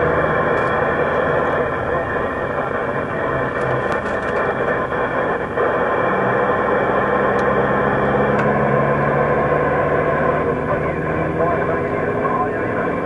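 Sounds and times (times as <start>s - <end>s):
radio static hiss: 0.0s - 7.9s, 10.0s - 13.0s
steady low hum: 0.0s - 13.0s.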